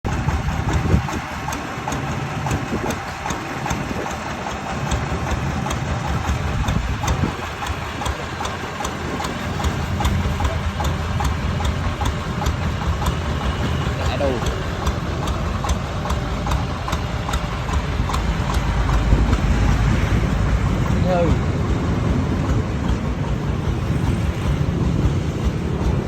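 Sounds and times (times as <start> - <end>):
diesel engine idling with knock: 0.0 - 26.0.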